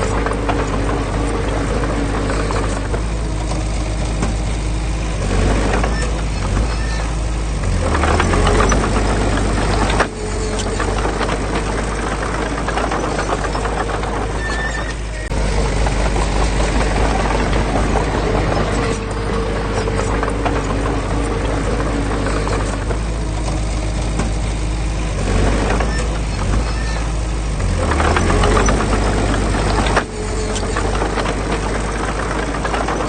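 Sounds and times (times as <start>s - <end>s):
heavy machinery diesel drone: 0.0s - 33.0s.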